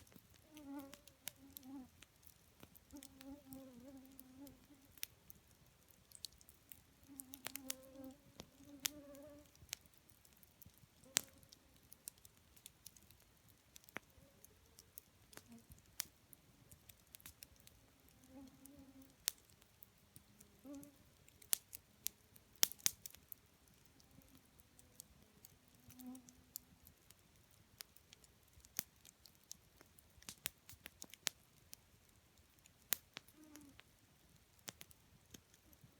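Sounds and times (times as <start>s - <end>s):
campfire crackling: 0.0s - 35.9s.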